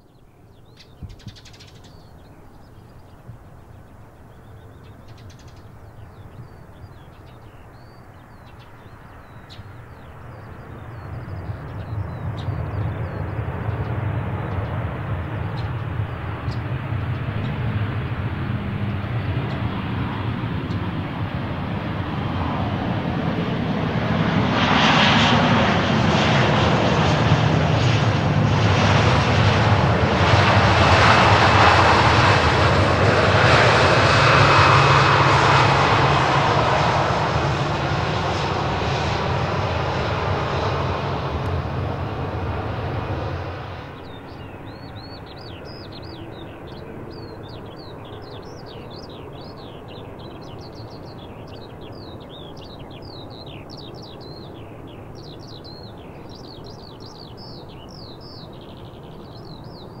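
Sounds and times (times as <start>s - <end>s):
birds chirping: 0.0s - 60.0s
faint distant engine hum: 0.0s - 60.0s
jet engines running loud: 2.0s - 60.0s.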